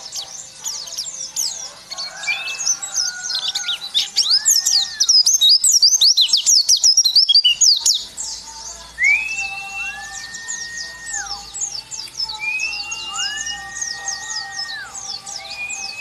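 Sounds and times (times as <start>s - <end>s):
white-eye twittering song: 0.0s - 16.0s
low whistled bird notes: 1.0s - 8.0s, 9.0s - 16.0s.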